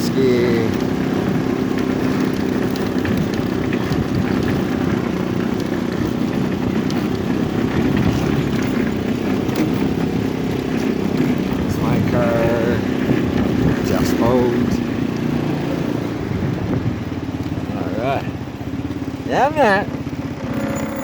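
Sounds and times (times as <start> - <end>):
dune buggy engine running: 0.0 - 21.0.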